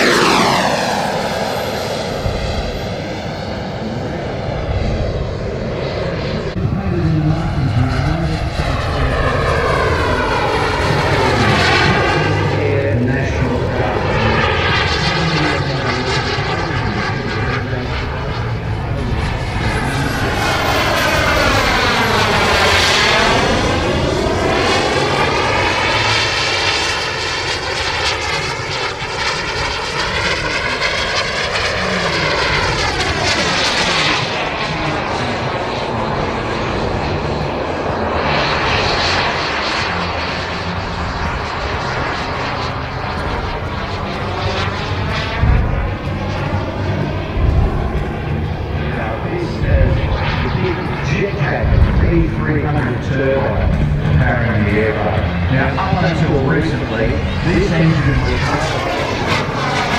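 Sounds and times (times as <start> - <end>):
model jet turbine whine: 0.0 - 59.9.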